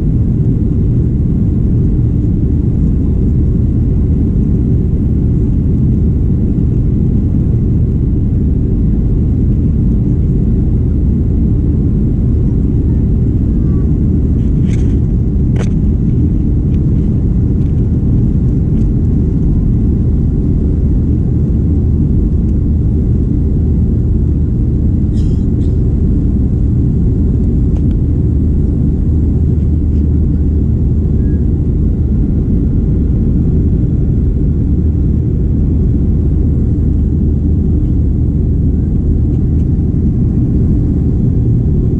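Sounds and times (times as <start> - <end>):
jet cabin rumble: 0.0 - 41.9.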